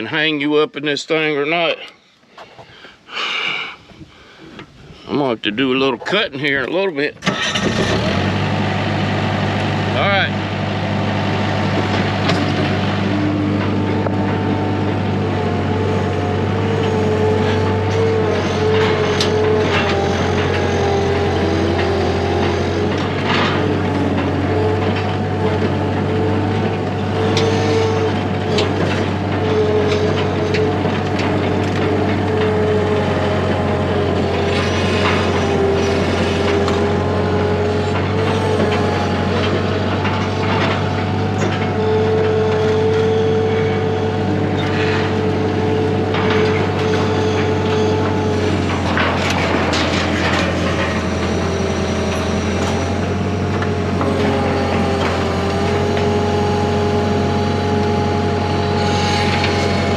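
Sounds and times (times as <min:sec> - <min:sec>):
engine humming with whine: 0:03.8 - 0:59.9.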